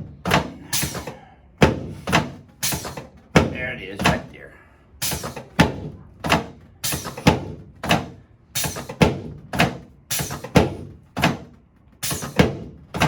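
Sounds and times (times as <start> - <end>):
chiropractic table banging: 0.0 - 4.3, 5.0 - 13.0.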